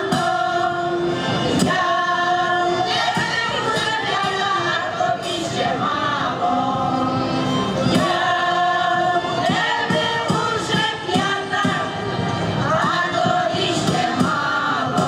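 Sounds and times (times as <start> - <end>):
folk choir singing: 0.0 - 15.0.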